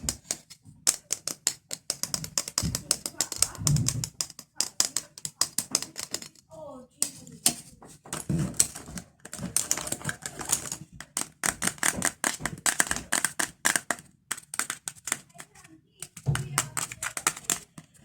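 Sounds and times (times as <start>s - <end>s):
fingernails tapping on pencil case: 0.0s - 6.4s, 7.0s - 18.0s.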